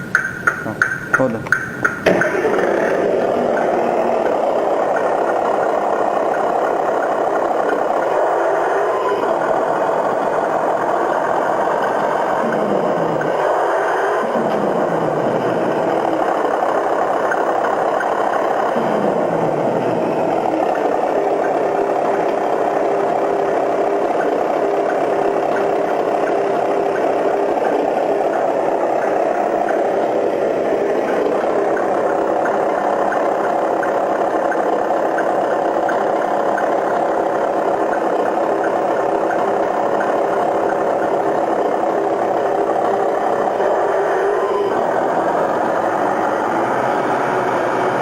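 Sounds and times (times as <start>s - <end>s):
truck engine idling through small speaker: 0.0s - 48.0s.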